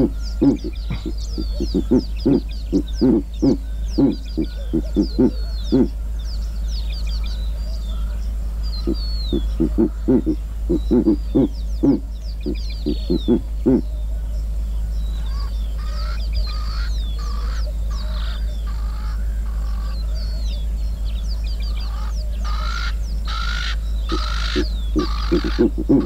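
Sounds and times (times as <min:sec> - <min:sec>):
owl deep grunting hoots: 0:00.0 - 0:06.4, 0:07.0 - 0:21.0, 0:21.6 - 0:26.0
birds harsh repeated calls: 0:00.0 - 0:26.0
birds high falling whistles: 0:00.0 - 0:26.0.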